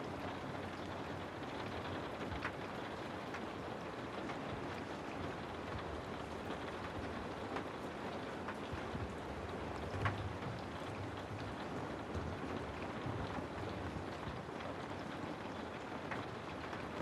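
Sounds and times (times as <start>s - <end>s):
steady rain hiss: 0.0s - 17.0s
raindrops ticking: 0.2s - 17.0s.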